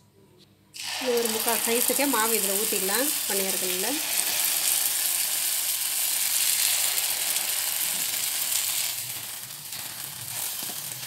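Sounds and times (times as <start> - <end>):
batter sizzling in hot oil: 0.8 - 11.0.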